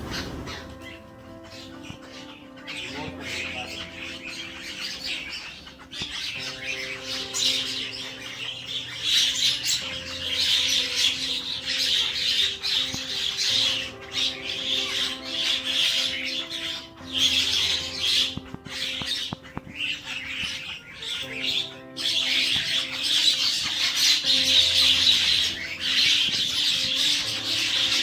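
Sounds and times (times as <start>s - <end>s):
background music with held notes: 0.0s - 28.0s
birds chattering and squawking: 0.0s - 28.0s.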